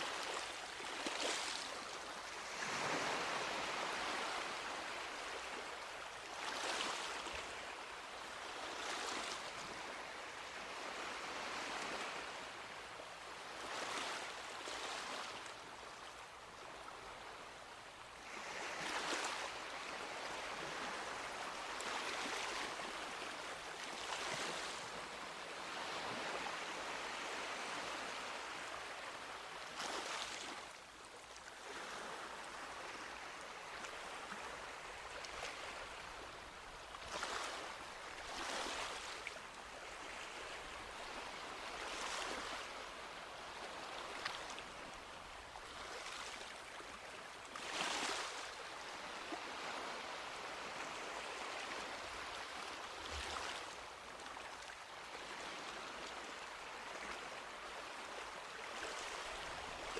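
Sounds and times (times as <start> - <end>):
small waves lapping on beach: 0.0 - 59.9.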